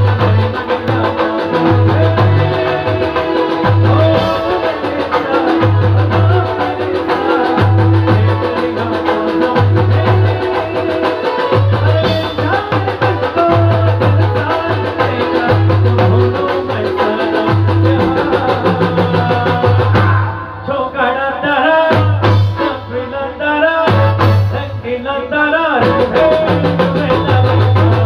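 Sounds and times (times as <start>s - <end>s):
drums: 0.0s - 28.0s
keyboard: 0.0s - 28.0s
man singing: 0.0s - 28.0s.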